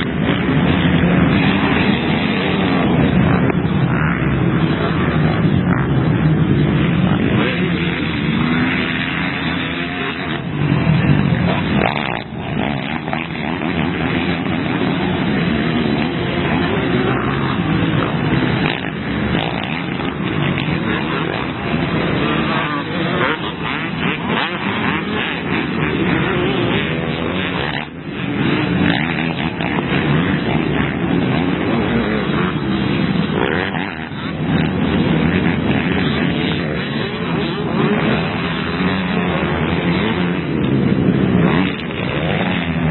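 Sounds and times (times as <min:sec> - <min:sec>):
motocross bike engines revving: 0:00.0 - 0:42.9.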